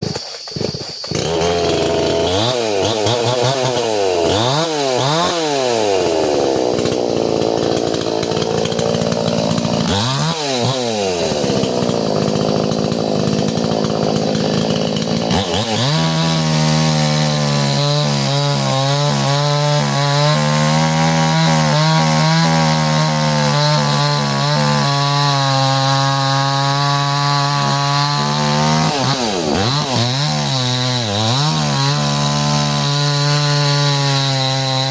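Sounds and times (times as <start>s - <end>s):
chainsaw revving and cutting: 0.0s - 34.9s.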